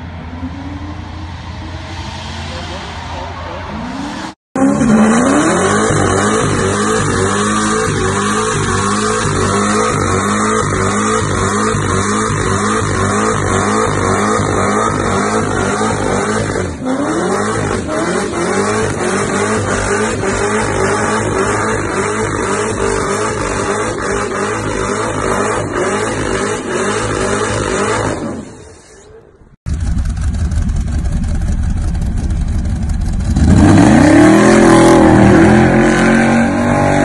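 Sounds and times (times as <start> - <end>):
car engine revving high: 0.0 - 28.8, 33.0 - 37.0.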